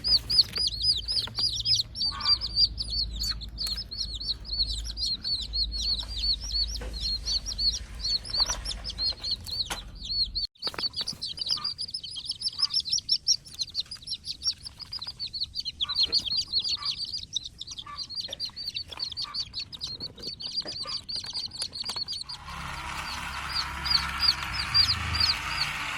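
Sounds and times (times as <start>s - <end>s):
chicks peeping: 0.0s - 25.9s.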